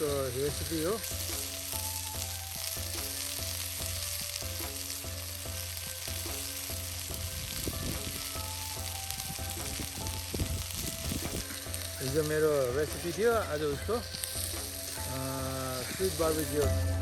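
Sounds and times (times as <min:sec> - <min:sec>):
chicken sizzling: 0:00.0 - 0:17.0.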